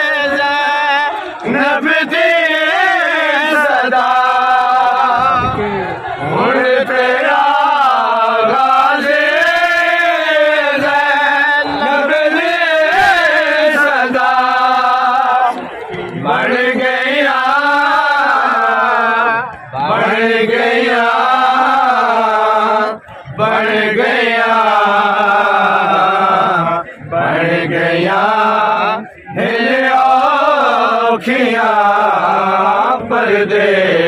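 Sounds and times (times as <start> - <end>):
men chanting a mourning lament: 0.0 - 34.0.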